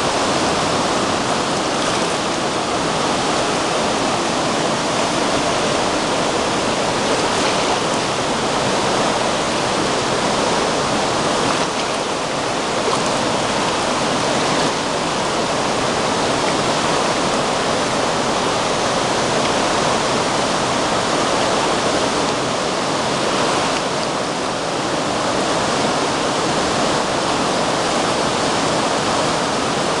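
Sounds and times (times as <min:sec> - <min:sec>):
river rushing whitewater: 0:00.0 - 0:30.0.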